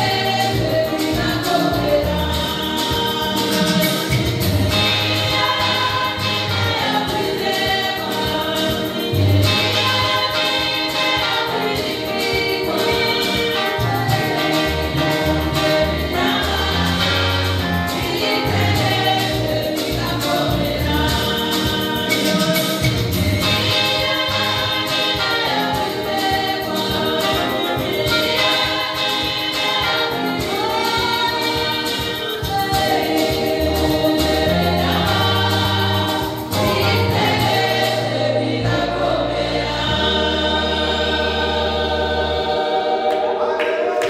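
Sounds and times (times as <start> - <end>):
bass: 0.0 - 43.0
women's choir singing: 0.0 - 44.0.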